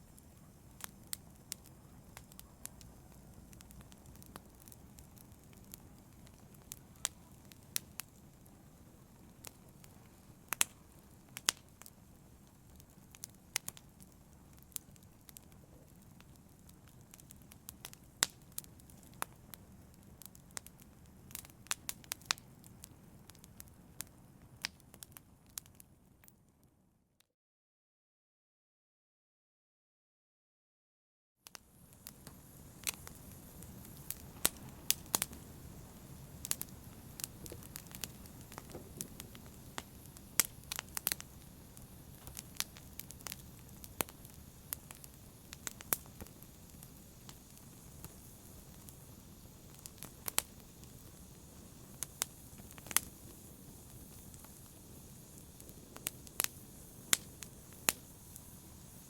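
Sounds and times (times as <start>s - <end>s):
wood fire crackling: 0.0s - 26.3s, 31.5s - 59.0s.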